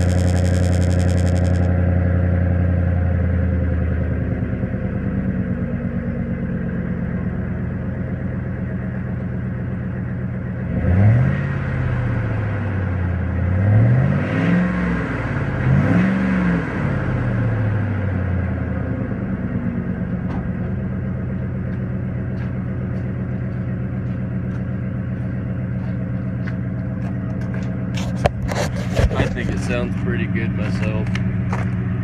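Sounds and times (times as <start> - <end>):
pickup truck engine idling and revving: 0.0 - 32.0.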